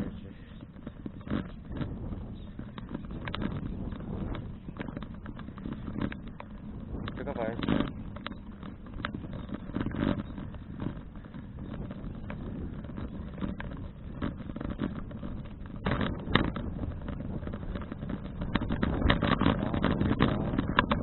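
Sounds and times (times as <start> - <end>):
road rumble: 0.0 - 21.0
wind noise: 0.0 - 21.0.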